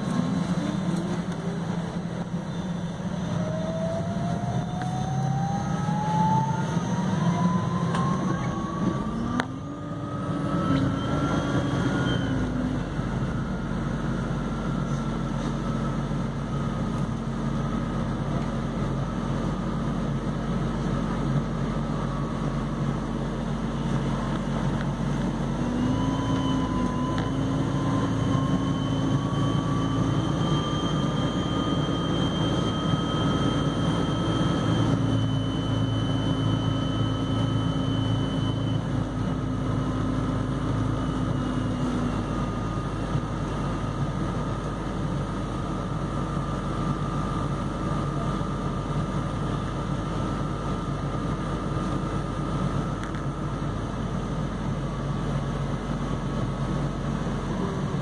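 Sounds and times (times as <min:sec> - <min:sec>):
bus road rumble: 0:00.0 - 0:58.0.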